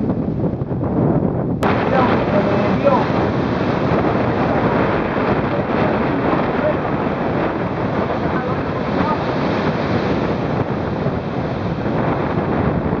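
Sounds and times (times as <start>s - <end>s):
wind buffeting microphone: 0.0s - 13.0s
storm surf breaking: 1.5s - 13.0s.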